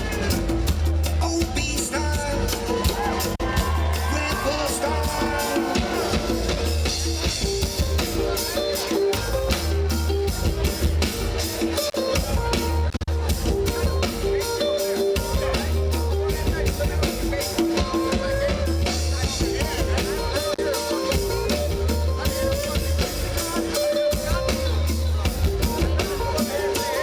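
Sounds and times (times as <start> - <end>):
drum kit: 0.0 - 27.0
guitar: 0.0 - 27.0
pulsing bass line: 0.0 - 27.0
reggae band playing: 0.0 - 27.0.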